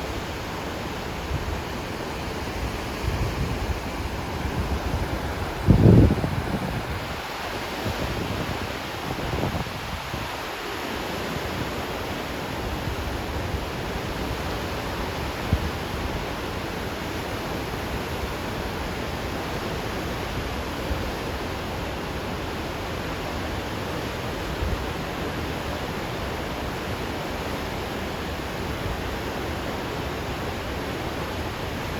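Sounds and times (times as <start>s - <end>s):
heavy water rushing: 0.0s - 31.9s.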